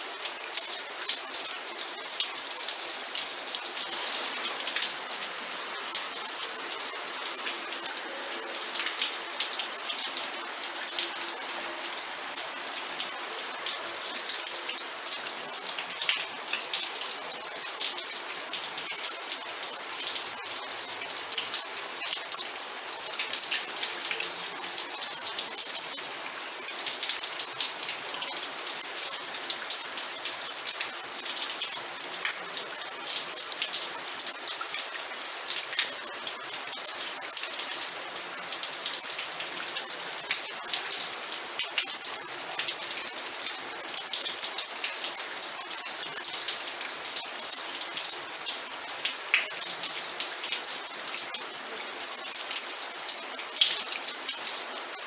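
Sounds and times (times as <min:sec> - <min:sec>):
steady rain falling: 0:00.0 - 0:55.0
raindrops hitting a surface: 0:00.1 - 0:55.0.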